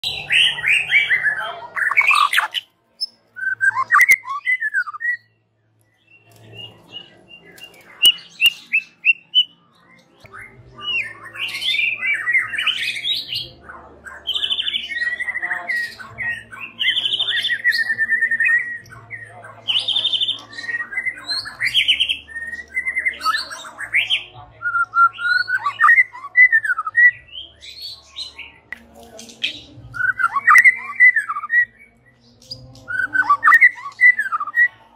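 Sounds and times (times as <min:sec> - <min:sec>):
bird singing whistled phrases: 0:00.1 - 0:13.5, 0:14.4 - 0:28.6, 0:29.9 - 0:34.8.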